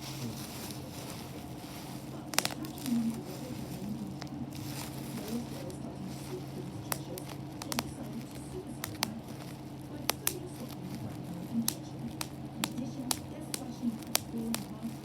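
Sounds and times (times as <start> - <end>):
faint crackling: 0.0 - 15.0
low steady hum: 0.0 - 15.0.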